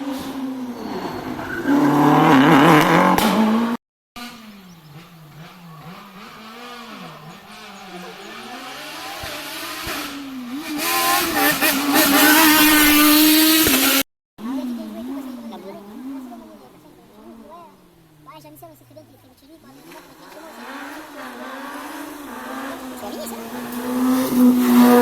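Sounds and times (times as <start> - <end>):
distant car revving: 0.0 - 25.0
rally car engines revving: 0.0 - 25.0.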